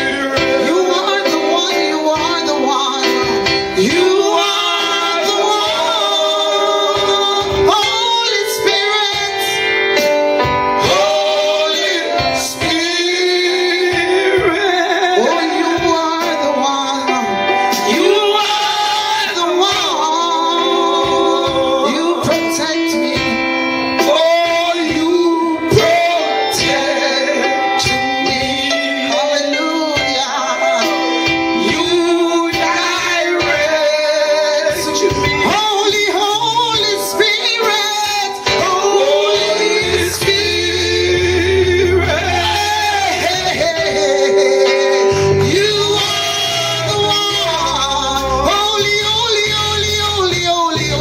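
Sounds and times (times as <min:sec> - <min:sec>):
voices singing worship song: 0:00.0 - 0:51.0.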